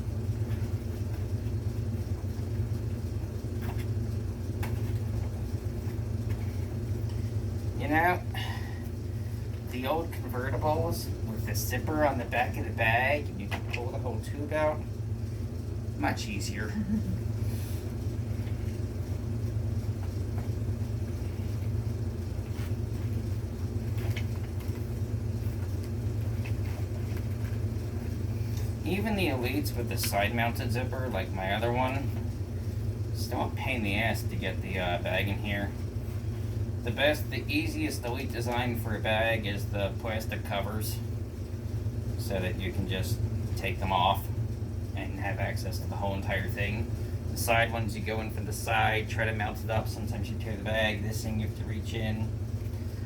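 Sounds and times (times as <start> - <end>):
low background hum: 0.0 - 53.0.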